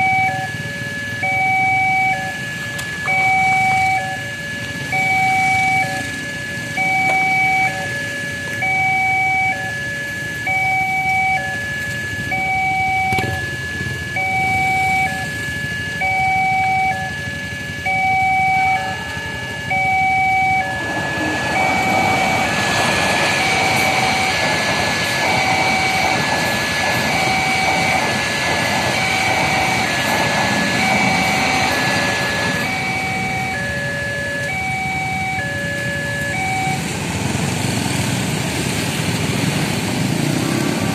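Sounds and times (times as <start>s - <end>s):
two-tone level-crossing alarm: 0.0s - 37.8s
train passing rumble: 0.0s - 40.9s.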